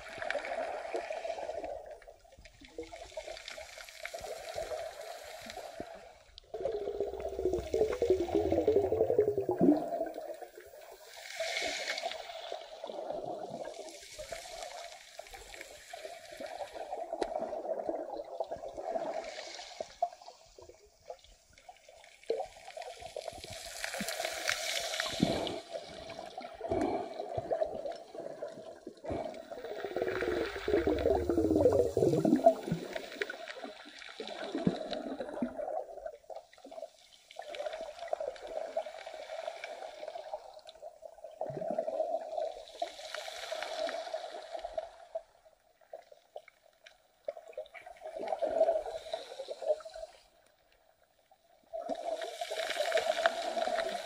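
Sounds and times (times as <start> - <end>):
underwater seawater surging: 0.0 - 20.7, 22.3 - 45.1, 51.8 - 54.0.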